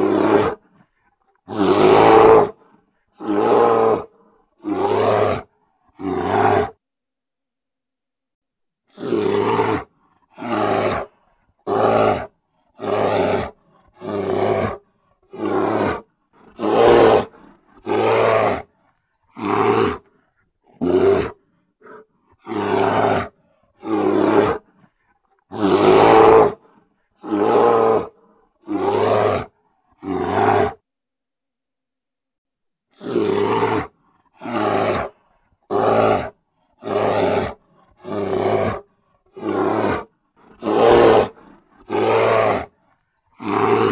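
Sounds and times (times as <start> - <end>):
bear roaring: 0.0 - 6.8, 8.9 - 30.8, 32.9 - 42.8, 43.4 - 43.9.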